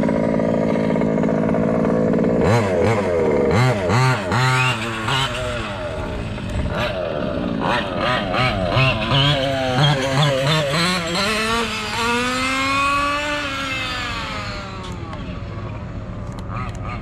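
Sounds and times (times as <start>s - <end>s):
small gas engine revving: 0.0s - 17.0s.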